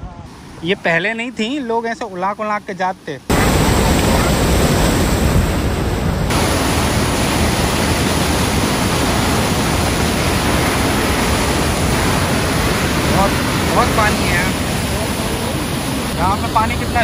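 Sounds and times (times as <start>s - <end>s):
water rushing through dam gate: 3.3s - 17.0s.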